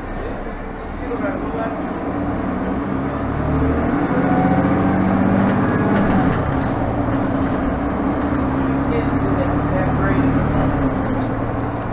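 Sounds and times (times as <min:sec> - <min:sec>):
bus diesel engine droning: 0:00.0 - 0:11.9.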